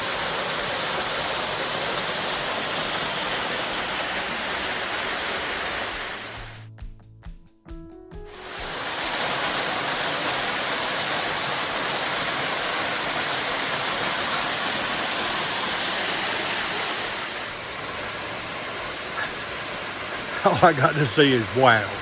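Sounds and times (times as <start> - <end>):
waterfall rushing: 0.0 - 6.6, 8.3 - 22.0.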